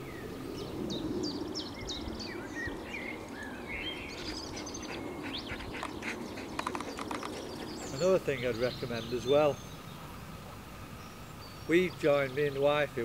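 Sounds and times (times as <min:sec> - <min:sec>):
low background noise: 0:00.0 - 0:13.0
songbirds chirping and whistling: 0:00.0 - 0:13.0.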